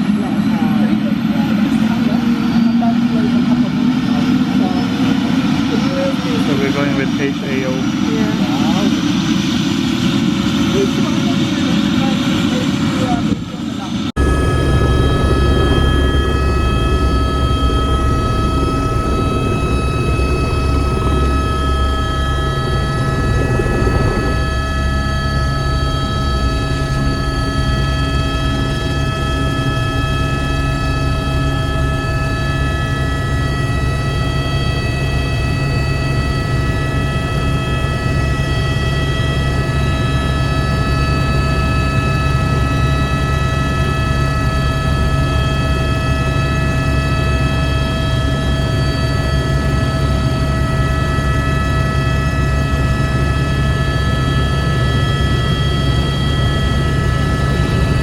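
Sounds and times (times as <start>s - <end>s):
helicopter engine and rotor: 0.0s - 58.0s.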